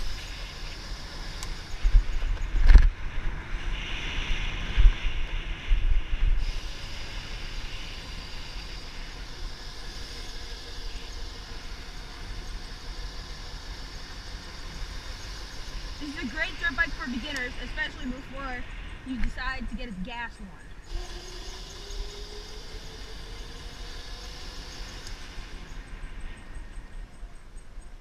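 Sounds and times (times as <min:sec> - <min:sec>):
electric dirt bike motor: 0:00.0 - 0:19.5, 0:20.7 - 0:27.8.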